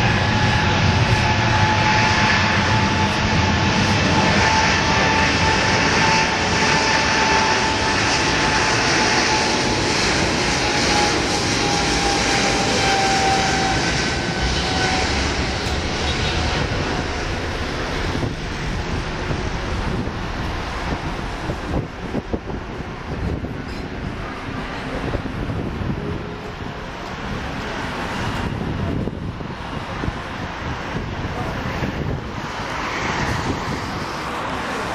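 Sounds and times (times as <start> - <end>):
jet engines roaring and whining: 0.0 - 34.9.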